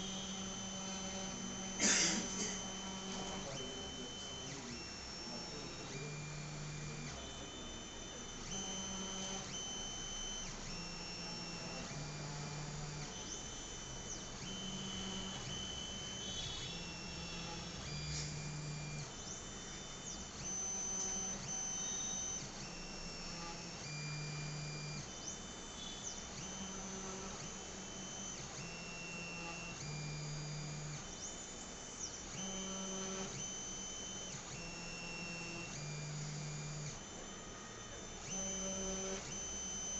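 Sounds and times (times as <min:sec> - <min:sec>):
stepper motors whining: 0:00.0 - 0:39.9.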